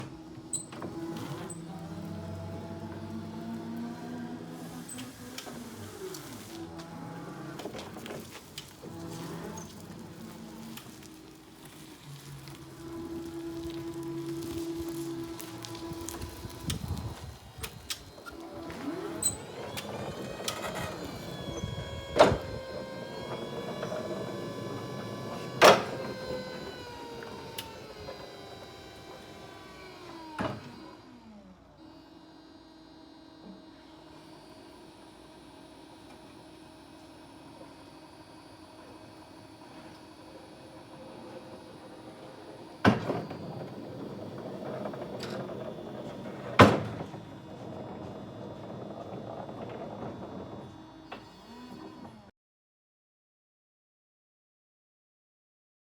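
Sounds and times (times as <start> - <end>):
electric forklift motor whining: 0.0 - 52.3.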